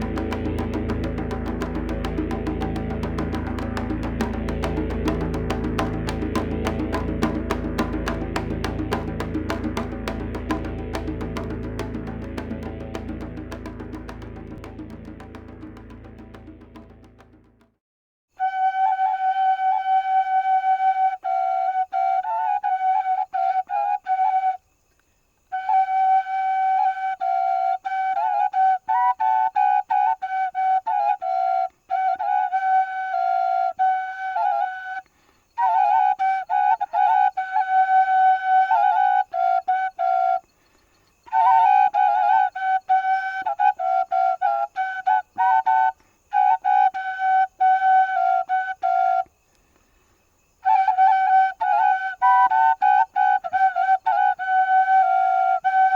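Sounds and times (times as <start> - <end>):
solo flute melody with trills: 0.0 - 17.5, 18.3 - 24.7, 25.5 - 40.5, 41.2 - 49.4, 50.6 - 55.9.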